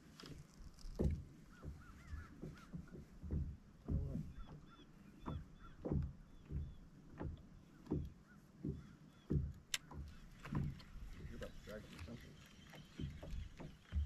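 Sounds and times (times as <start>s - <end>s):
waves slapping against boat hull: 0.0s - 14.0s.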